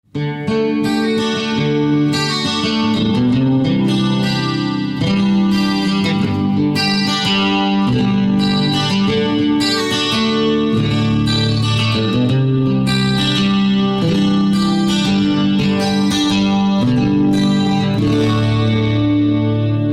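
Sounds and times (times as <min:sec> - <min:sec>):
acoustic guitar strumming chords: 0:00.1 - 0:19.9.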